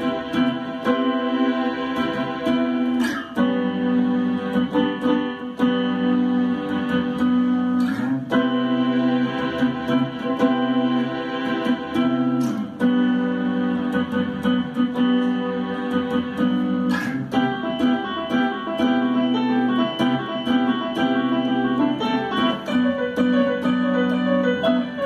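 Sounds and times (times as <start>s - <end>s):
electric guitar: 0.0s - 25.0s
keyboard chords: 0.0s - 25.0s.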